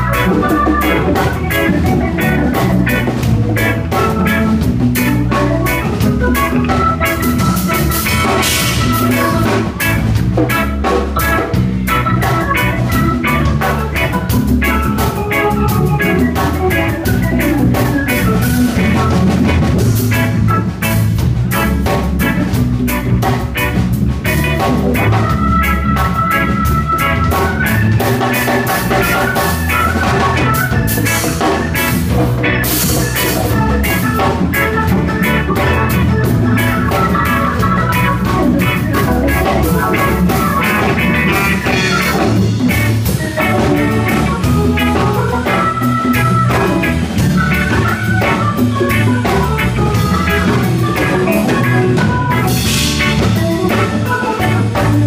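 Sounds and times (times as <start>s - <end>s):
congas playing rhythm: 0.0s - 55.0s
organ-like keyboard chords: 0.0s - 55.0s.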